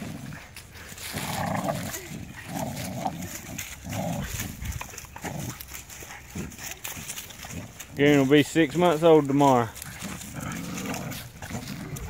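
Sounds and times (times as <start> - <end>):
dogs play-growling: 0.0 - 8.2, 9.5 - 12.0.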